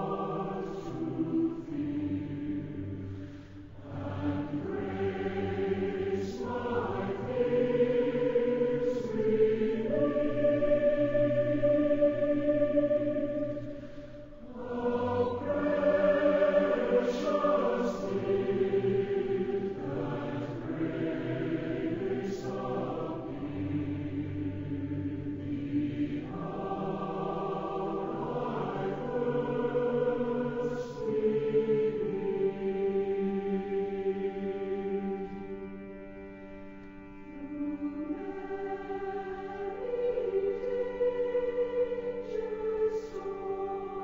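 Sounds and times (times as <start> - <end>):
choir singing held chords: 0.0 - 44.0.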